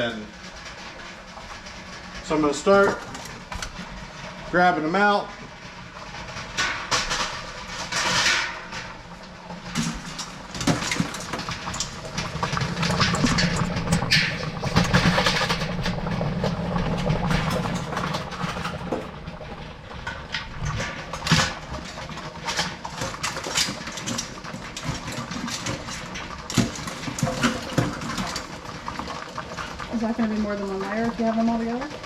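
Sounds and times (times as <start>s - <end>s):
pot boiling with low rumble: 0.0s - 32.0s
crabs clicking and knocking: 5.7s - 32.0s.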